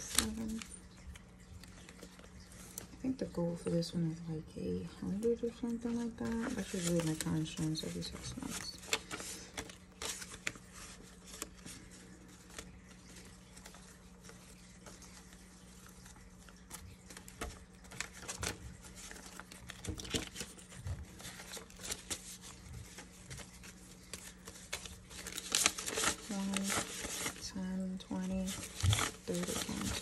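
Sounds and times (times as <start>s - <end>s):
banknotes rustling and flicking: 0.0s - 4.0s, 4.6s - 30.0s.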